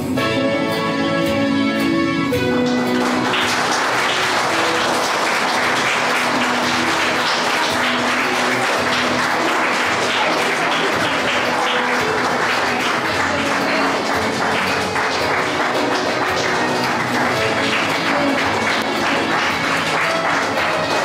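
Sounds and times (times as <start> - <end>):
music playing: 0.0 - 21.0
children applauding: 2.4 - 21.0.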